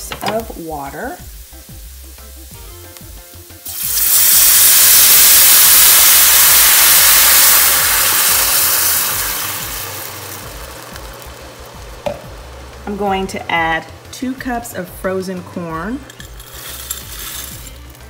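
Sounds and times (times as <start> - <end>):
water sizzling in hot pan: 0.0 - 18.0.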